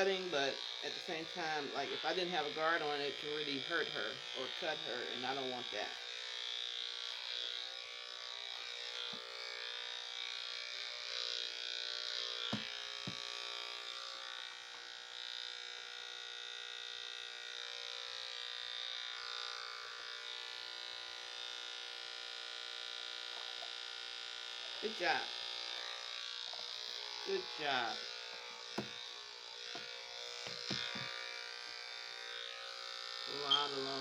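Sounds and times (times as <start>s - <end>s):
electric dog clippers buzzing: 0.0s - 34.0s.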